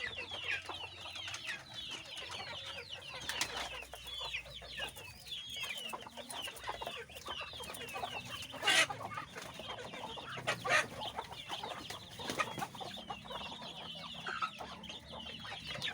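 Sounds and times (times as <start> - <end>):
loud poultry calls: 0.0 - 15.9
poultry chirping: 0.0 - 15.9.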